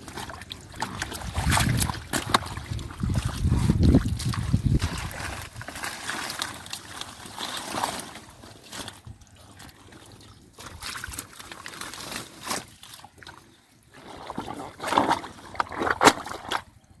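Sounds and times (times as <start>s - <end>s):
water sloshing and splashing: 0.0s - 17.0s.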